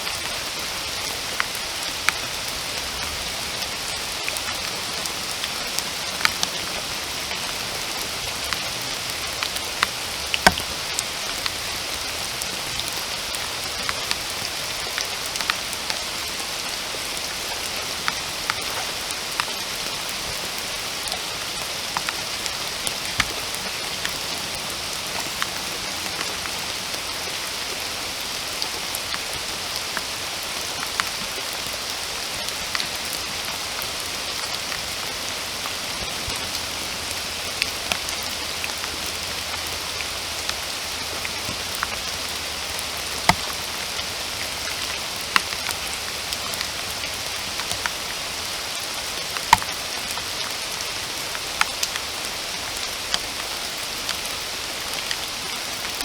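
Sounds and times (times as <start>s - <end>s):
raindrops ticking close by: 0.0s - 56.0s
steady rain in forest: 0.0s - 56.0s.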